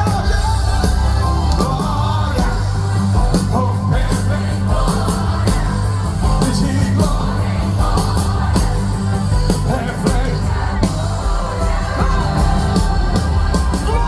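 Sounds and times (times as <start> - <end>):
live band music: 0.0 - 14.0
people singing: 0.0 - 14.0.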